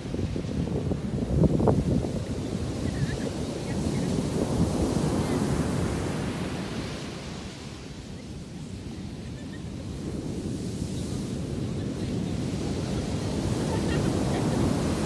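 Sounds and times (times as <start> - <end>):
sea waves washing on shore: 0.0 - 15.0
wind buffeting microphone: 0.0 - 15.0.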